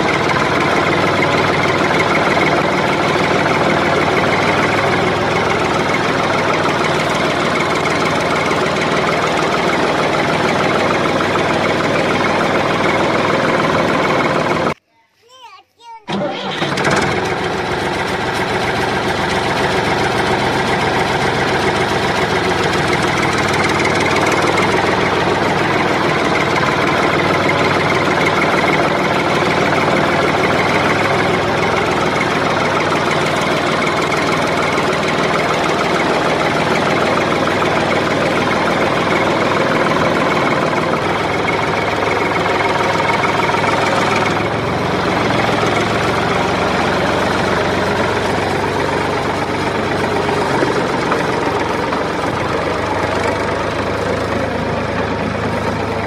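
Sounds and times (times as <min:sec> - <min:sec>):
engine idling with knocking: 0:00.0 - 0:14.8, 0:16.1 - 0:56.0.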